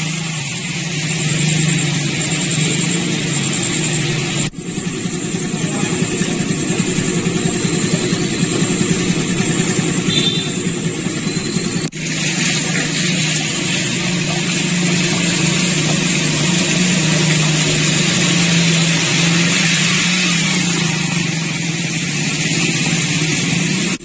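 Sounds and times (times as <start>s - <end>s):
motorcycle engines running: 0.0s - 24.0s
traffic noise: 0.0s - 24.0s
water hissing: 0.0s - 24.0s.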